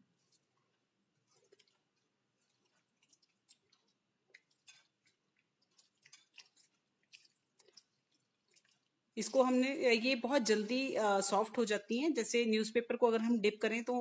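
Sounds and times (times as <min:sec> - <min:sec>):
wet pulp squelching: 0:00.0 - 0:11.8.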